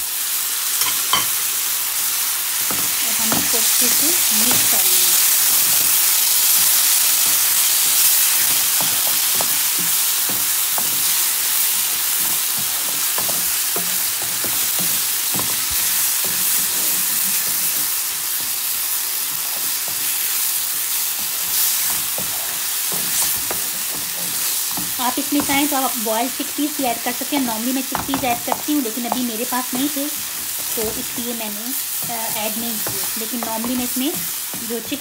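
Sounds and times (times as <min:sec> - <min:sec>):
food sizzling in a frying pan: 0:00.0 - 0:35.0
wooden spatula scraping a pan: 0:02.6 - 0:35.0.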